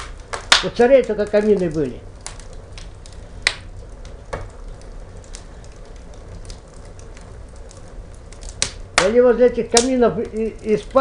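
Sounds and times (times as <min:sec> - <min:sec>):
logs crackling and popping: 0:00.0 - 0:11.0
low rumble of fire: 0:00.0 - 0:11.0.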